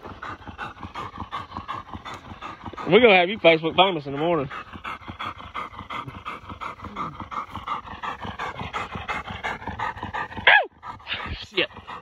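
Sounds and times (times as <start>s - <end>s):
dog panting fast: 0.0s - 12.0s.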